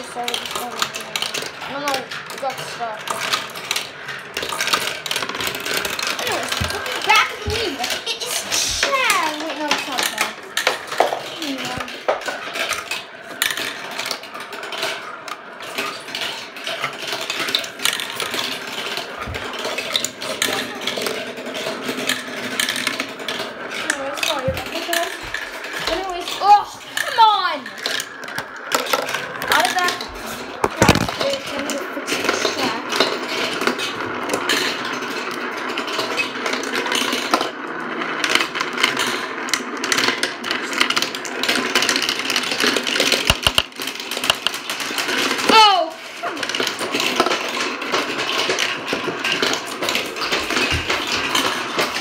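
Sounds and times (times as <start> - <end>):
marbles rattling on plastic track: 0.0 - 52.0.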